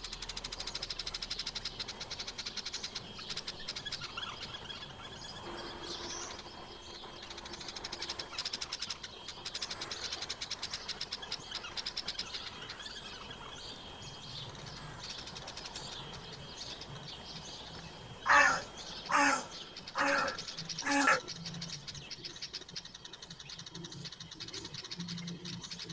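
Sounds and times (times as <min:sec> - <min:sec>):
birds chirping and trilling: 0:00.0 - 0:25.9
loud bird calls: 0:00.0 - 0:25.9.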